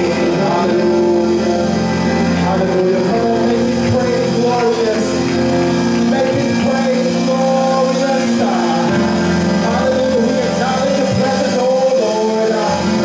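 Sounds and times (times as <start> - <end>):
electric keyboard chords: 0.0 - 13.0
man singing into microphone: 0.0 - 13.0.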